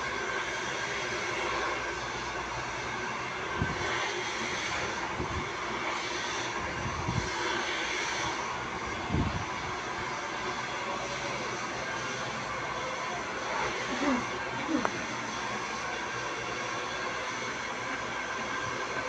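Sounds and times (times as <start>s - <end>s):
hair dryer blowing: 0.0s - 19.0s.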